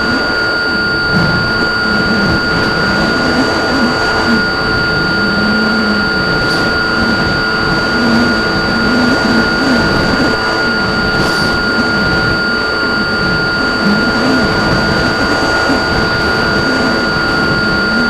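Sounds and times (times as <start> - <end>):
high motor whine: 0.0 - 18.0.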